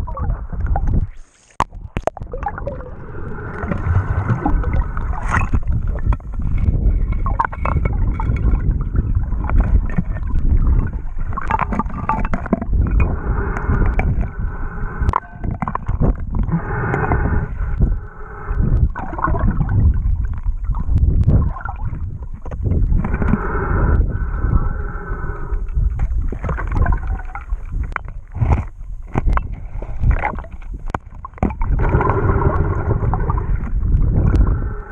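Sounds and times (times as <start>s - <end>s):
underwater gurgling bubbles: 0.0s - 34.9s.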